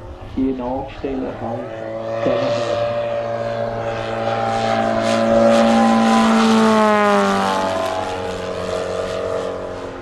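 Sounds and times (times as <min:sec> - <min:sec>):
model plane engine flying past: 0:00.0 - 0:10.0.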